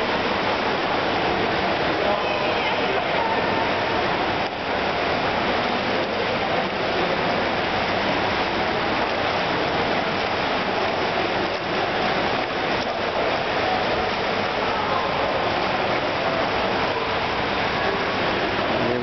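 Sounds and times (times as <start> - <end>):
swimming pool hall rushing noise: 0.0 - 19.0.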